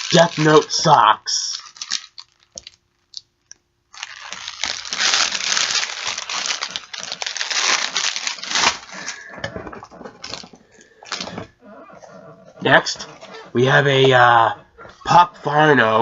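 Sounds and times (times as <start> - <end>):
packaging crinkling and rustling: 0.0 - 14.7.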